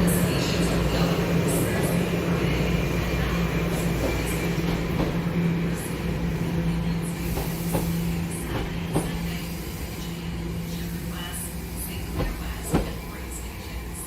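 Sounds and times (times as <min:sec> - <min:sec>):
subway train passing: 0:00.0 - 0:14.0.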